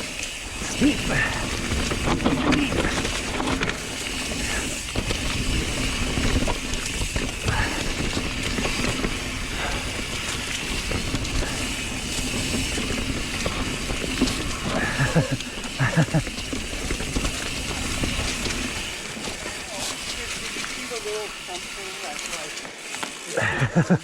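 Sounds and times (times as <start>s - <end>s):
bike tyres and drivetrain rumbling: 0.0s - 24.0s.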